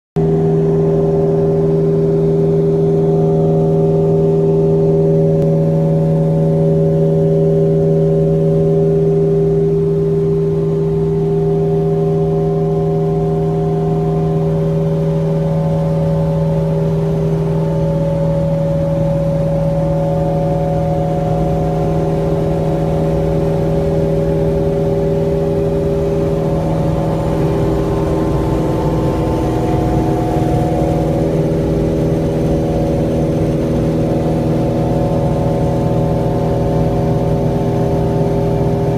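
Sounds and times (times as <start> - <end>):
airplane engines droning in cabin: 0.2 - 38.9.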